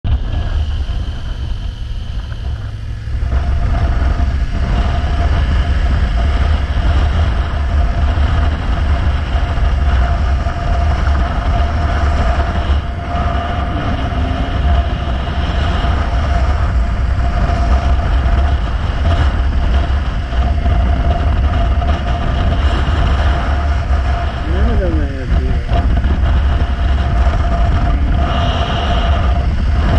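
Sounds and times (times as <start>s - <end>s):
motorcycle engine running: 0.0s - 29.9s
wind rumble on microphone: 0.0s - 29.9s
thin steady whine: 0.1s - 29.9s.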